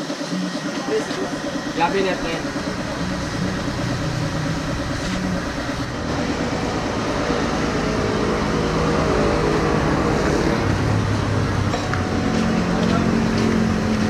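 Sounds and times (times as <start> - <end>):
motor running: 0.0 - 14.0.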